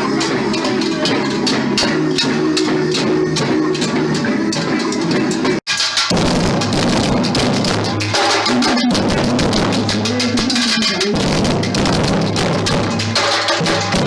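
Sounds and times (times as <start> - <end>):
drums in driving rhythm: 0.0 - 14.0.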